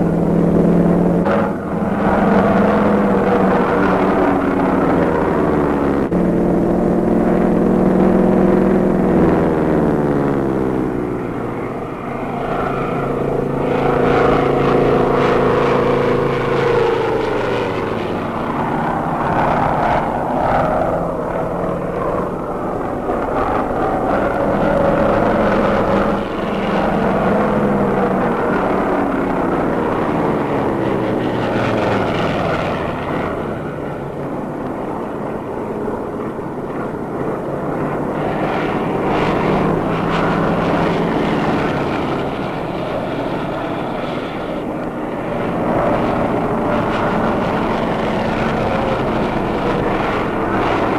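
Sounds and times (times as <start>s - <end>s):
propeller plane engines droning: 0.0s - 50.9s.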